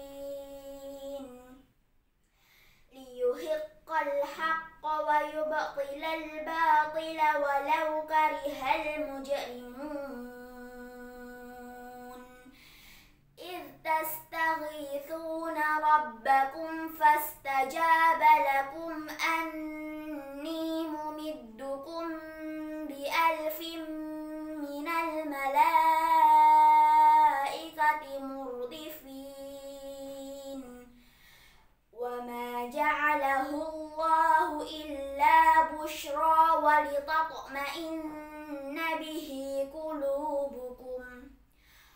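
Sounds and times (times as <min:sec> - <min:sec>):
girl chanting melodically: 0:00.0 - 0:01.8, 0:02.9 - 0:31.2, 0:31.9 - 0:41.9.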